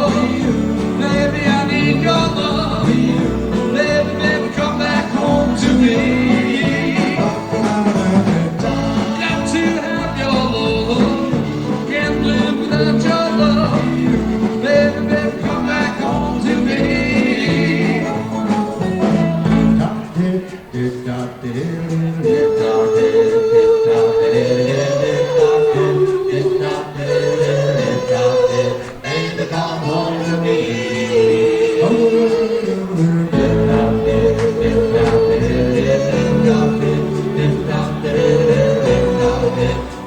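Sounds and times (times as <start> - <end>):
doo-wop band singing and playing: 0.0 - 40.0.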